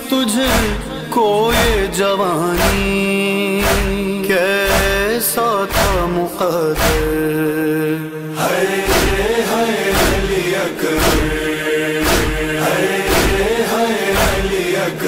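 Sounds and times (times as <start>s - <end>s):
men chanting a lament: 0.0s - 15.0s
heavy beat: 0.5s - 2.0s, 2.6s - 7.3s, 8.6s - 15.0s.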